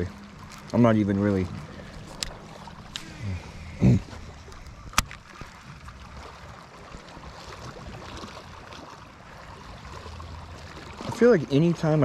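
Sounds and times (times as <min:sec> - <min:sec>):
water lapping against kayak hull: 0:00.0 - 0:12.0.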